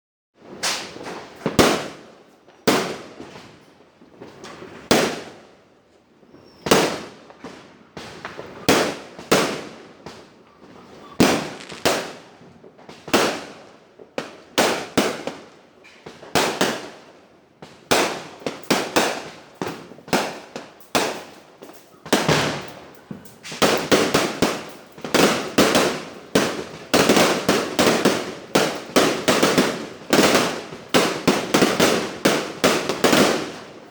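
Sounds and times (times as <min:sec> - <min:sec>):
fireworks banging and crackling: 0:00.4 - 0:33.9.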